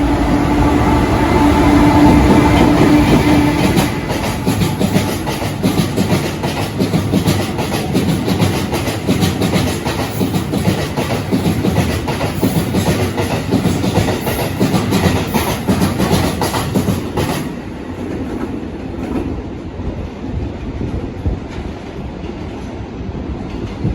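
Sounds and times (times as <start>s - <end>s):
train wheels clattering on rails: 0.0s - 19.6s, 23.4s - 23.9s.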